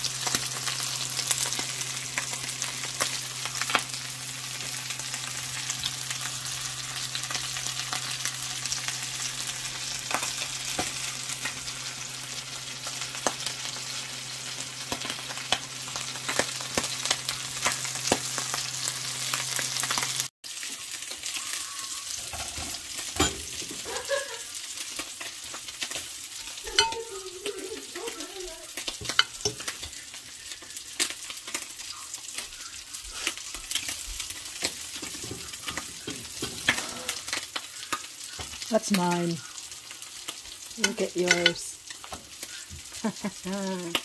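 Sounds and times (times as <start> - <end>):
fish sizzling in hot oil: 0.0 - 44.0.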